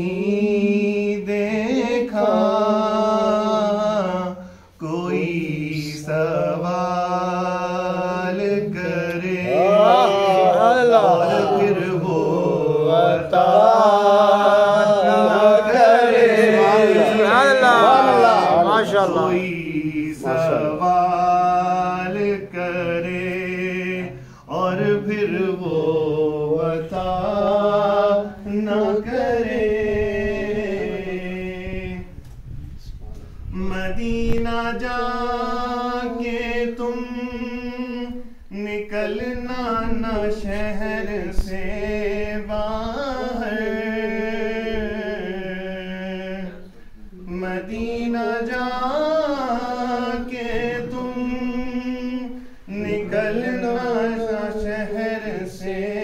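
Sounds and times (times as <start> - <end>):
man singing unaccompanied: 0.0 - 32.2, 33.5 - 56.0.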